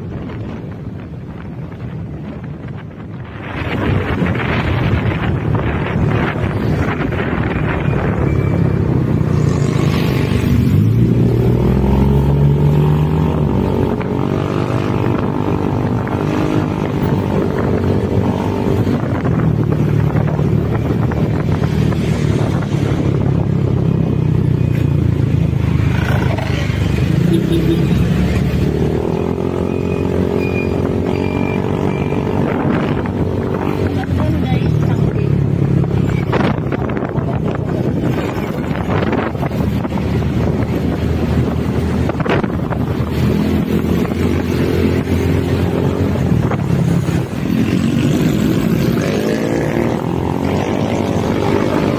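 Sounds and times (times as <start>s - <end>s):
wind noise on microphone: 0.0s - 51.9s.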